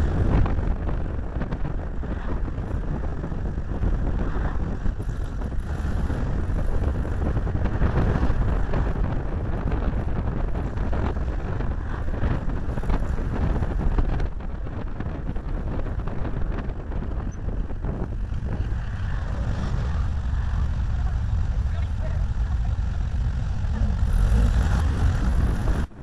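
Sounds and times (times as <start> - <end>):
low road rumble: 0.0 - 26.0
wind rushing over microphone: 0.0 - 26.0.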